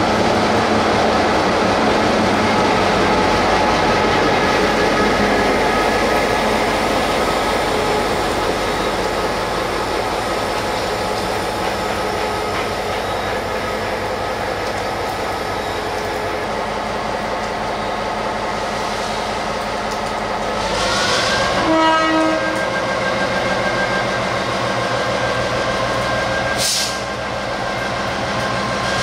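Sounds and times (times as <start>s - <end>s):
diesel locomotive running: 0.0s - 29.0s.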